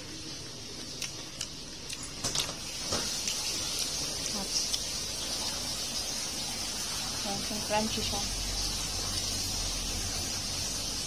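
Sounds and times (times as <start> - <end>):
fried fish crackling: 0.0 - 11.0
oil frying hiss: 0.0 - 11.0.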